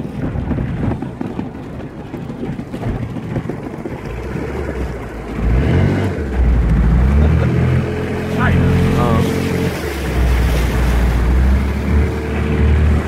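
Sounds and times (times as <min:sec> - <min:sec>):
motorboat engine running: 0:00.0 - 0:13.0
water rushing past: 0:00.0 - 0:13.0.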